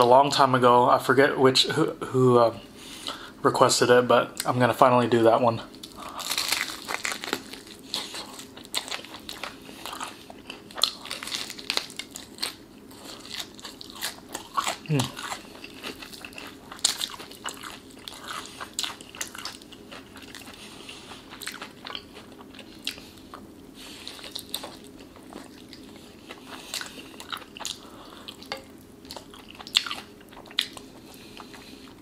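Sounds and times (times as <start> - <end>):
crunchy chewing of fried chicken: 5.7 - 32.0.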